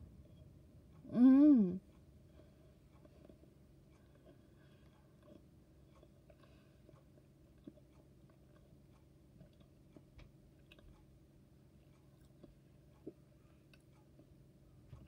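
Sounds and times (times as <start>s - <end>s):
faint chewing clicks: 1.8s - 15.0s.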